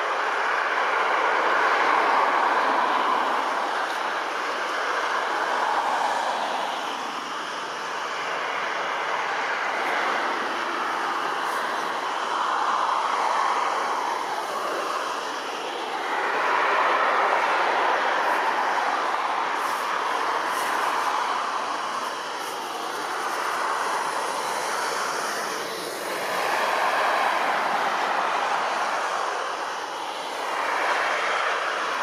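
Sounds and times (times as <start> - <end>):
distant jet engines roaring: 0.0 - 32.0.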